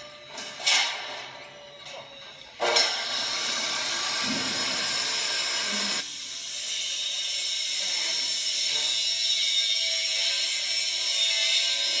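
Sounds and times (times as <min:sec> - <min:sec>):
cutting disc grinding metal: 0:00.8 - 0:12.0.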